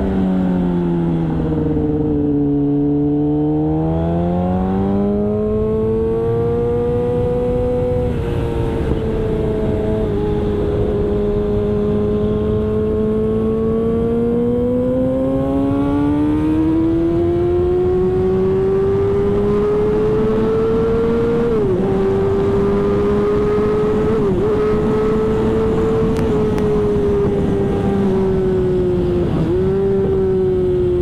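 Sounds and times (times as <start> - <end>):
motorcycle engine revving: 0.0 - 31.0
wind noise: 0.0 - 31.0.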